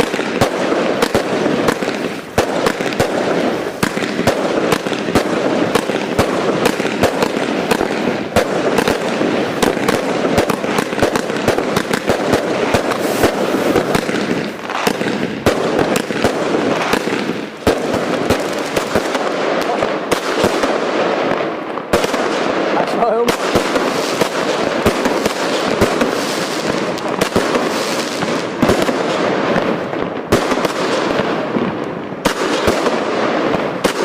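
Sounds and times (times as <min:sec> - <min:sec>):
firecrackers cracking and popping: 0:00.0 - 0:34.0.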